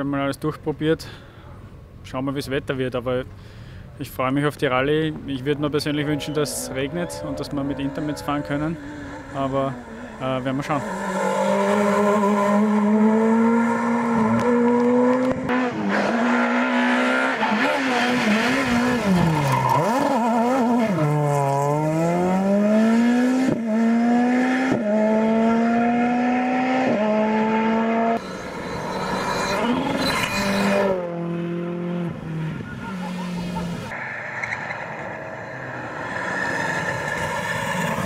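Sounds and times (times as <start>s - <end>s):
distant car passing: 5.6s - 38.0s
rally car engine at full throttle: 5.9s - 38.0s.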